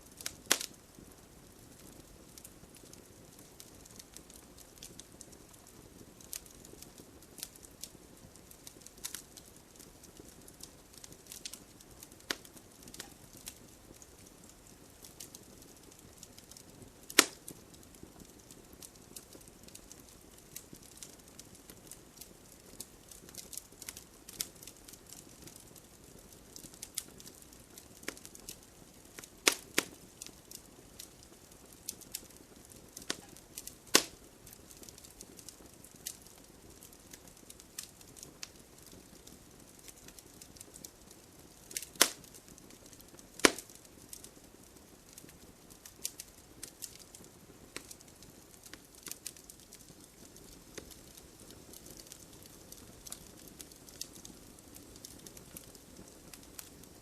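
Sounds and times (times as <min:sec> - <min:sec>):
campfire crackling: 0:00.0 - 0:57.0
sharp fire pops: 0:00.1 - 0:01.0, 0:01.8 - 0:26.0, 0:26.6 - 0:31.3, 0:31.9 - 0:44.2, 0:45.1 - 0:57.0.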